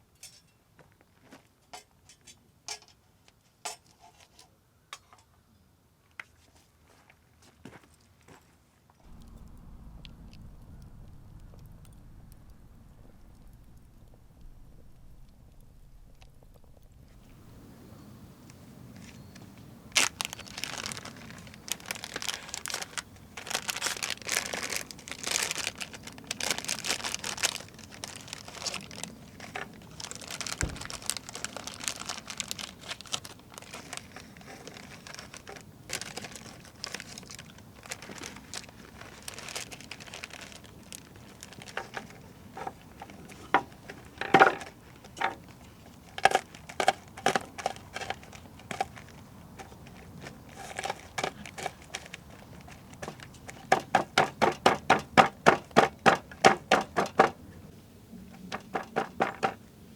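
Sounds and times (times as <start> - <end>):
crinkling and rustling: 6.2 - 17.7, 18.5 - 57.4, 58.2 - 59.6.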